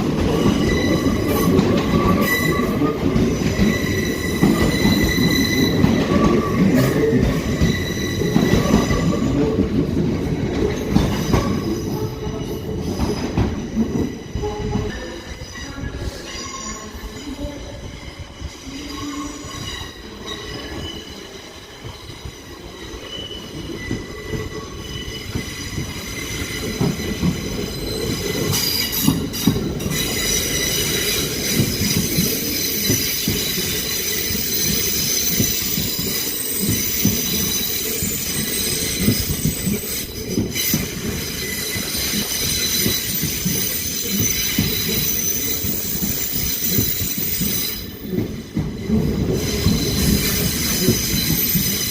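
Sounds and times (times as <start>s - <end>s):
train rumble: 0.0s - 16.3s, 16.9s - 51.9s
train wheels squealing: 0.0s - 51.9s.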